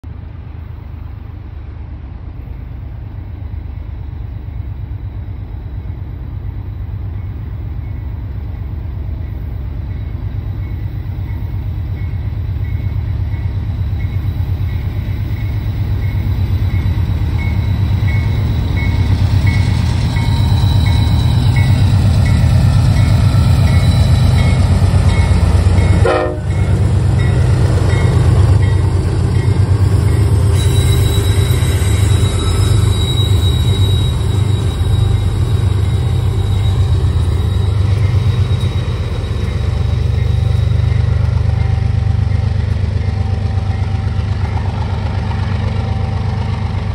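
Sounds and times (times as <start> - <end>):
diesel locomotive engines rumbling: 0.0 - 46.9
locomotive bell dinging: 6.6 - 46.7.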